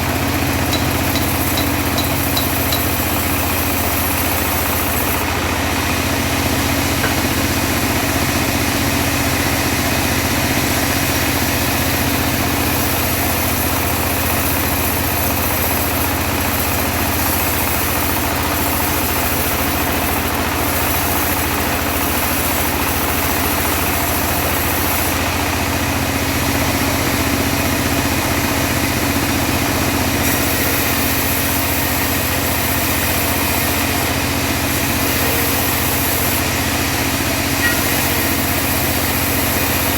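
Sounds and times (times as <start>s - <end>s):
bandsaw mill engine hum: 0.0s - 39.9s.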